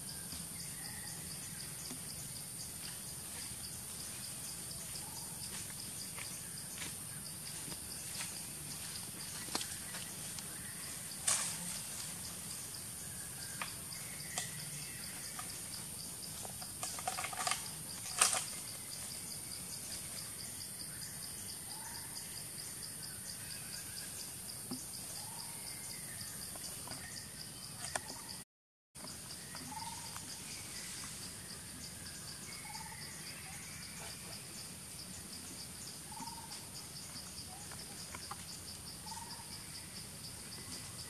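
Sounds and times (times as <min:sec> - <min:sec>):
insect chorus pulsing: 0:00.0 - 0:28.4, 0:29.0 - 0:41.0.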